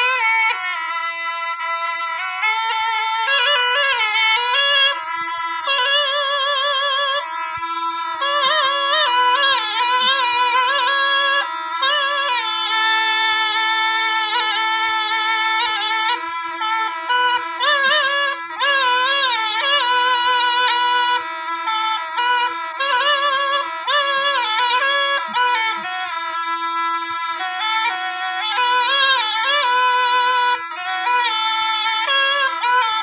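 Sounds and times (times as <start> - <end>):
held drone note: 0.0 - 33.0
wavering folk melody: 0.0 - 33.0.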